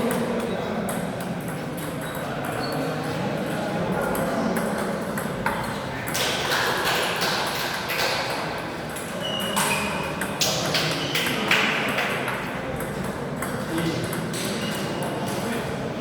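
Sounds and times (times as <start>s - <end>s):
murmur of voices in a hall: 0.0s - 16.0s.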